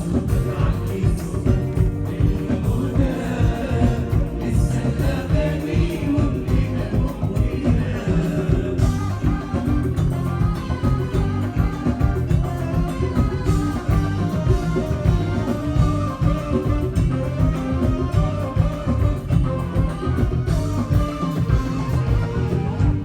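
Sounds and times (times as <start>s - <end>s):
drum kit beat: 0.0s - 23.0s
guitar: 0.0s - 23.0s.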